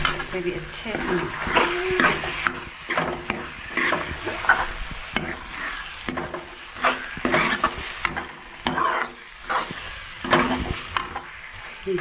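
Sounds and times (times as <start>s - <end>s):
metal ladle scraping steel pan: 0.0s - 11.4s
food sizzling in hot pan: 0.0s - 12.0s.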